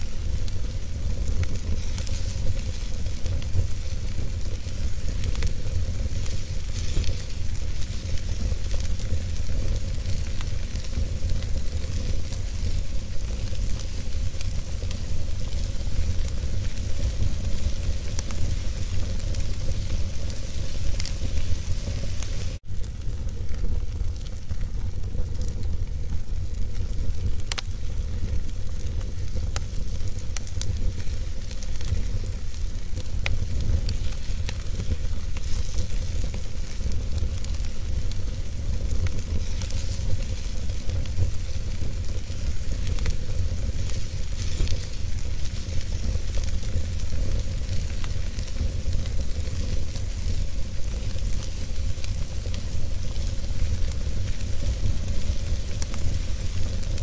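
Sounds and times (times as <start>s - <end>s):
fire flames rumbling and hissing: 0.0s - 57.0s
logs crackling and popping: 0.0s - 57.0s.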